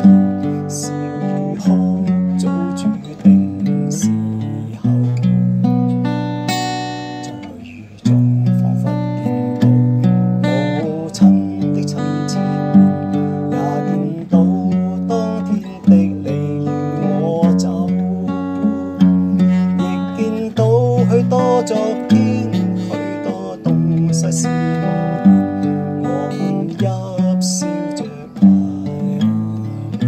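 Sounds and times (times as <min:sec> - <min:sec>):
acoustic guitar picking and strumming: 0:00.0 - 0:30.0.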